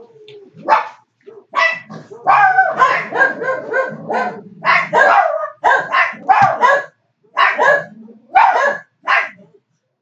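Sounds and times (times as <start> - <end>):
dog barking: 0.6 - 9.5.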